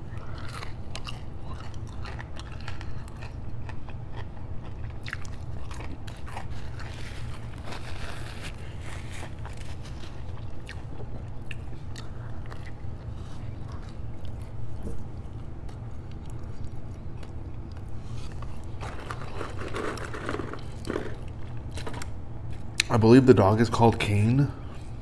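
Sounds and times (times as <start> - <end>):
person chewing fried food: 0.0 - 22.9
steady low hum: 0.0 - 25.0.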